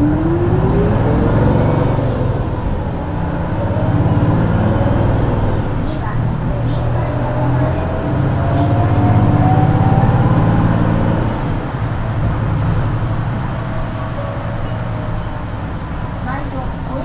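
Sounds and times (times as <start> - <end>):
bus engine accelerating: 0.0 - 17.0
rising drivetrain whine: 0.0 - 17.0.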